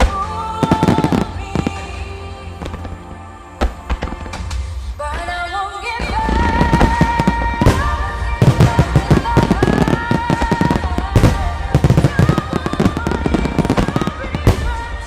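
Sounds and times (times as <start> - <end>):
fireworks shells bursting: 0.0 - 15.0
loud music with sustained melody: 0.0 - 15.0.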